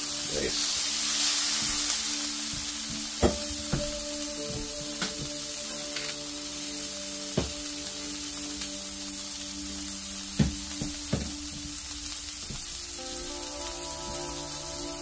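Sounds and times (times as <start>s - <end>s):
food sizzling in a skillet: 0.0s - 15.0s.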